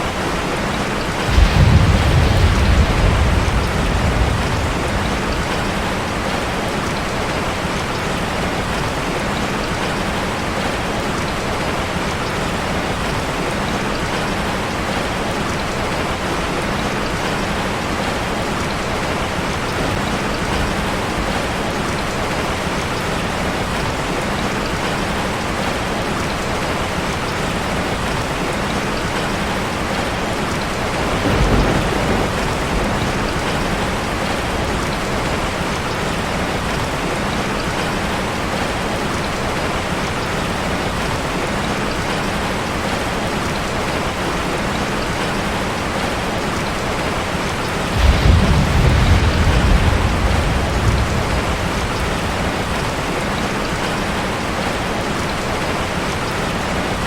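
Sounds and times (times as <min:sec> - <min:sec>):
rain falling on street: 0:00.0 - 0:57.0.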